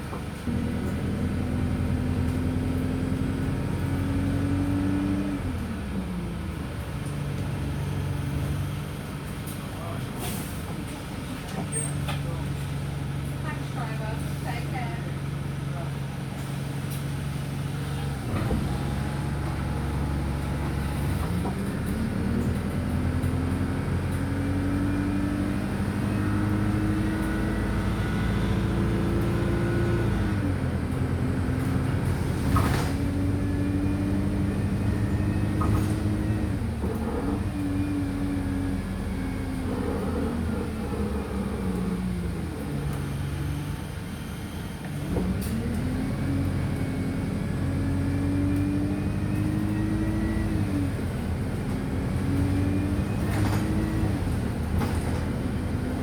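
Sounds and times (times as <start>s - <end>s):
bus engine: 0.0s - 56.0s.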